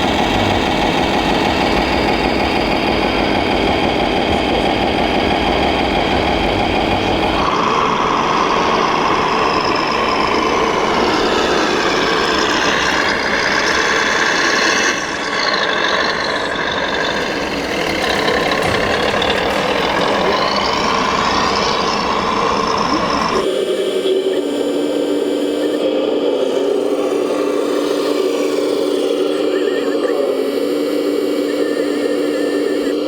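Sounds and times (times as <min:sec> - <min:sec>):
electric motor and pump whine: 0:00.0 - 0:33.0
steady engine-like running: 0:00.0 - 0:33.0.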